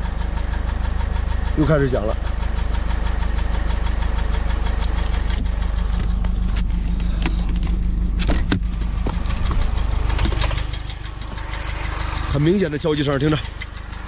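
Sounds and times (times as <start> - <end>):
small engine idling with ticking: 0.0 - 14.0.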